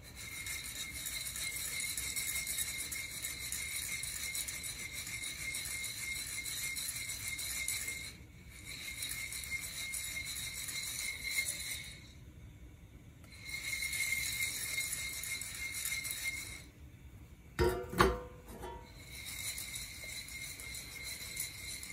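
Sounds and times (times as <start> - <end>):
coffee beans rattling: 0.0 - 12.1, 13.3 - 16.7, 17.6 - 21.9.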